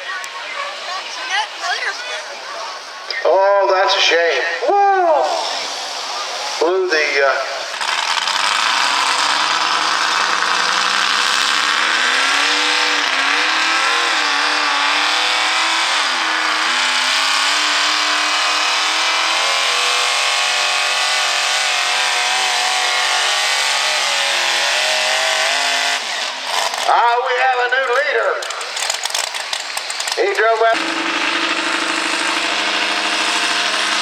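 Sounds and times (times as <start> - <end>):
tractor engine at full throttle: 5.3 - 34.0.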